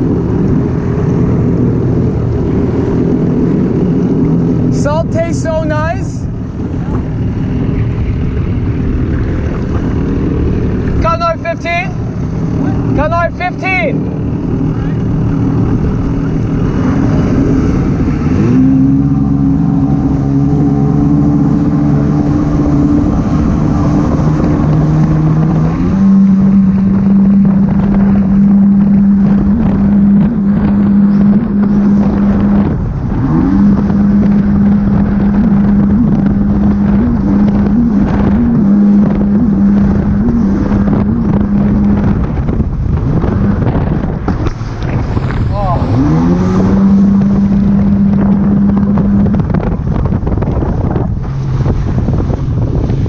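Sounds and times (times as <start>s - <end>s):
jet ski engine running: 0.0s - 53.0s
wind buffeting microphone: 0.0s - 53.0s.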